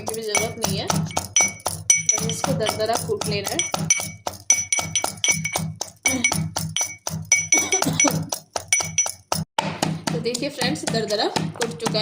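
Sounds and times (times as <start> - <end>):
pestle pounding in mortar: 0.0 - 12.0.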